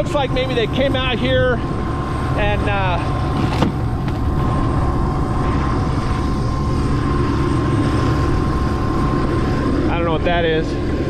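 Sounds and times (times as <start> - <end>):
helicopter turbine engine idling: 0.0 - 11.0.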